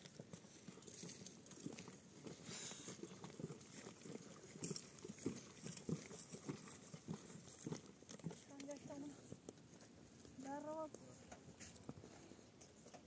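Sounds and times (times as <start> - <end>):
donkey hooves on loose rock: 0.0 - 13.0
footsteps on stony path: 0.0 - 13.0.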